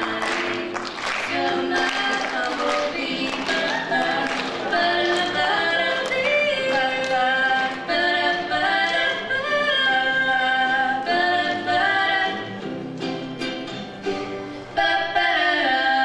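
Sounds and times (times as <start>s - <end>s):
women singing a pop song: 0.0s - 12.6s, 14.8s - 16.0s
acoustic guitar: 0.0s - 16.0s
ukulele: 0.0s - 16.0s.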